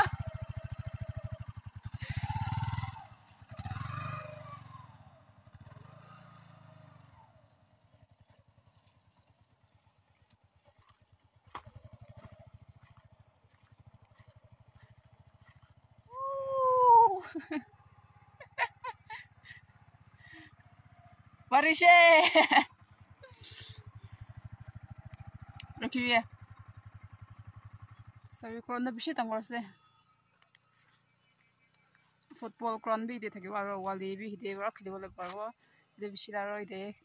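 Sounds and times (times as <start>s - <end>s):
motorcycle engine revving: 0.0s - 35.6s.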